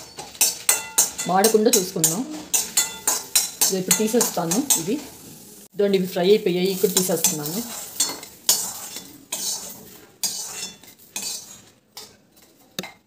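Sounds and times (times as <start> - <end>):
metal spatula scraping a wok: 0.0 - 5.6, 6.6 - 12.8
frying in oil: 0.0 - 12.8.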